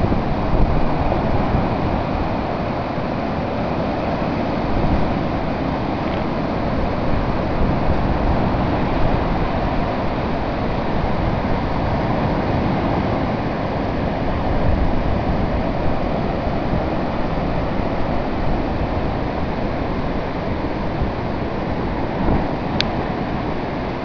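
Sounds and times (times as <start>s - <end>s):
surf breaking on beach: 0.0s - 24.0s
wind rumble on microphone: 0.0s - 24.0s.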